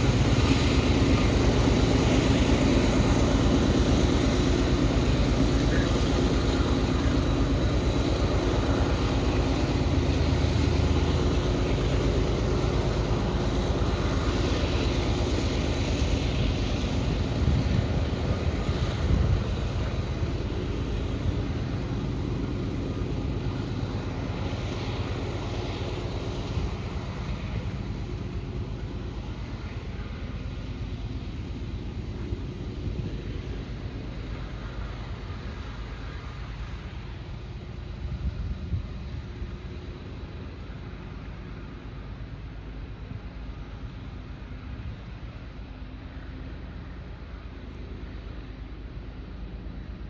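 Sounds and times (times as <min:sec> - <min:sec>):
diesel locomotive engine droning: 0:00.0 - 0:50.0.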